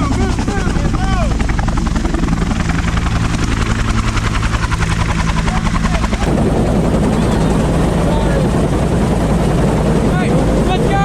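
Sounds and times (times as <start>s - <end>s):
helicopter engine drone: 0.0s - 11.0s
rotor blades beating: 0.1s - 10.7s.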